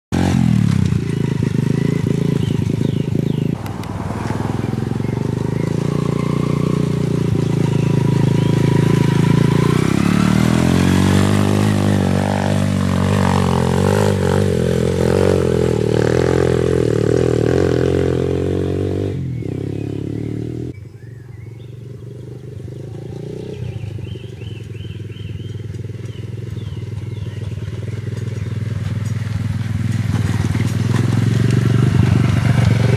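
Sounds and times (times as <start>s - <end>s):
single-cylinder engine revving: 0.1s - 32.9s.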